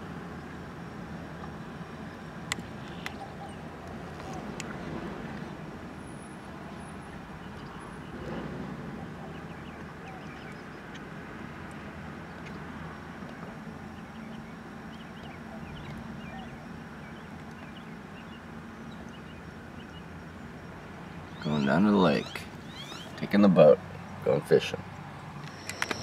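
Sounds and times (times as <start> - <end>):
low rumble of traffic: 0.0 - 26.0
birds chirping: 2.6 - 4.8, 6.3 - 13.0, 13.6 - 26.0.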